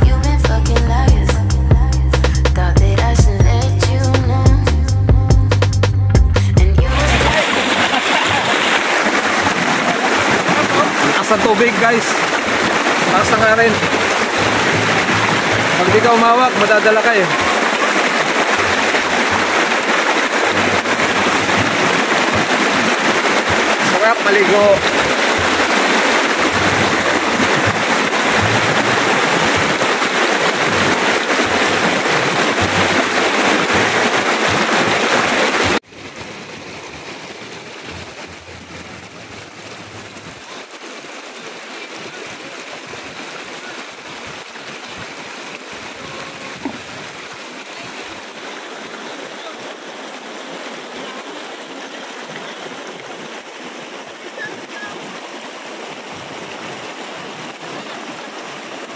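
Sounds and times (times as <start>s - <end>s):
river rapids rushing over rocks: 6.8s - 58.9s.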